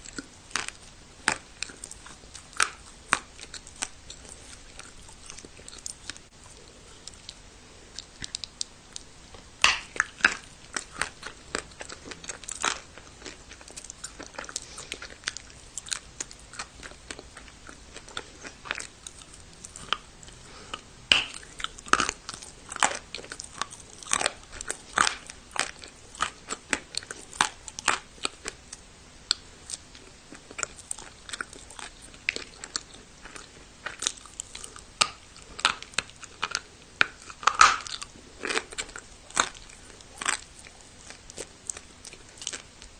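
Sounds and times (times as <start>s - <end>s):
crunching dry clay with teeth: 0.0s - 42.9s.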